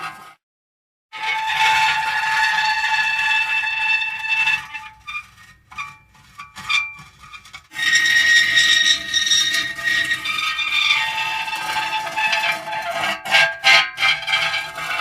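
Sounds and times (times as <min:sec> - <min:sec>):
metal creaking and squealing: 0:01.2 - 0:15.0.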